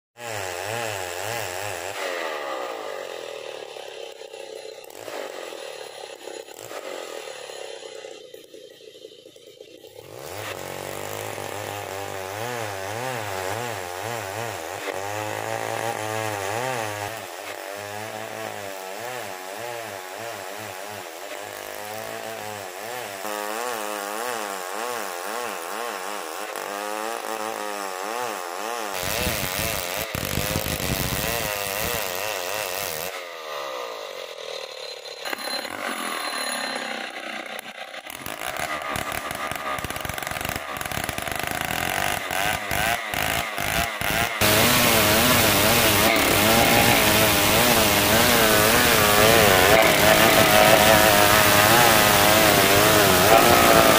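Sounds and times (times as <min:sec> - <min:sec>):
chainsaw ripping timber: 0:00.2 - 0:07.6, 0:09.7 - 0:34.4, 0:37.0 - 0:53.9.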